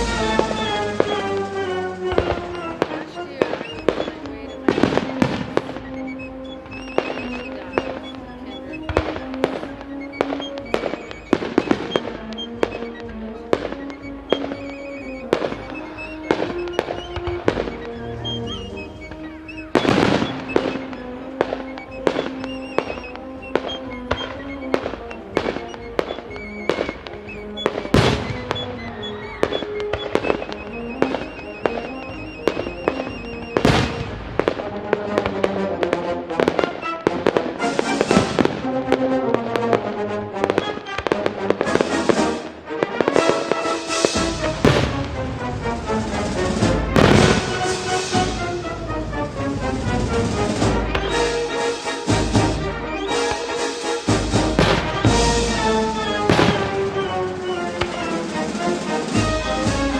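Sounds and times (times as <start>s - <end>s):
fireworks bangs and booms: 0.0s - 59.9s
music with held notes: 0.0s - 59.9s.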